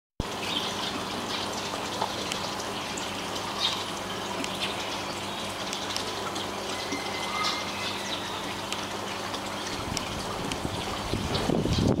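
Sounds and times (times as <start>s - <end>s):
water trickling into aquarium: 0.2s - 12.0s.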